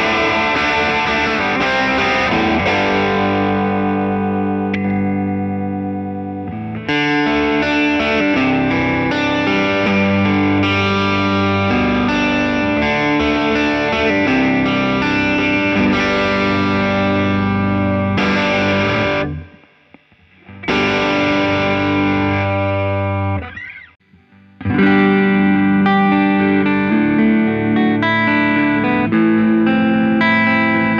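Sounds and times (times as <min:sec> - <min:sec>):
electric guitar playing: 0:00.0 - 0:30.9.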